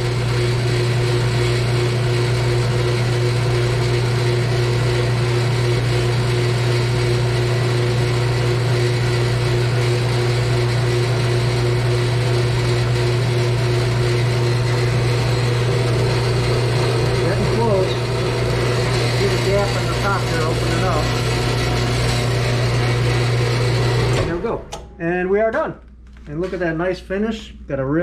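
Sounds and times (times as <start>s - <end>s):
metal-cutting bandsaw humming: 0.0s - 24.8s.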